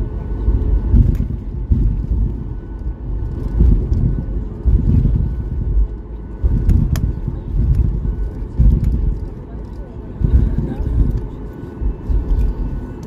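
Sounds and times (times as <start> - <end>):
faint jet engine whine: 0.0 - 13.0
low rumble of taxiing airplane: 0.0 - 13.0.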